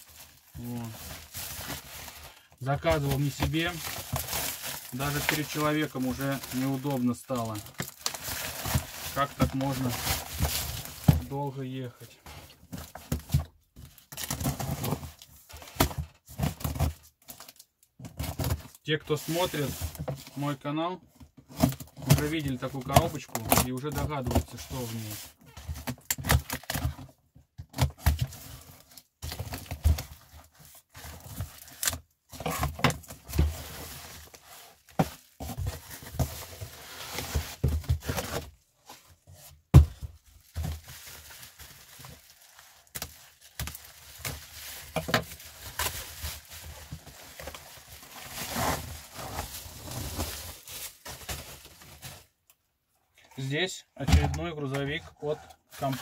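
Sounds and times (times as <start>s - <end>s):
cardboard and plastic rustling: 0.0s - 52.5s, 53.4s - 56.0s.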